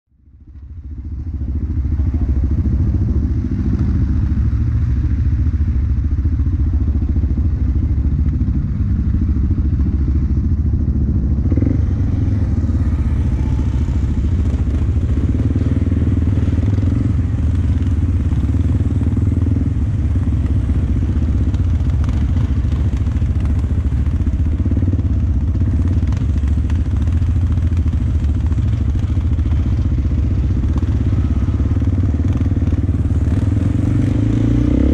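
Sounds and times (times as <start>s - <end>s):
atv engine running: 0.2s - 34.9s.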